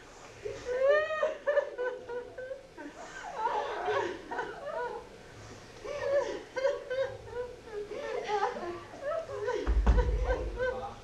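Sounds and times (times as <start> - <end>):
people sobbing and wailing: 0.4 - 5.2, 5.8 - 11.0.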